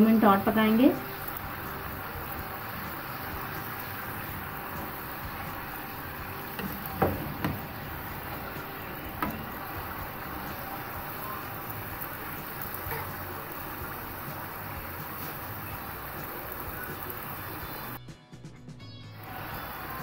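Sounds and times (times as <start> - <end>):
fries sizzling in hot oil: 0.0 - 18.0, 19.2 - 20.0.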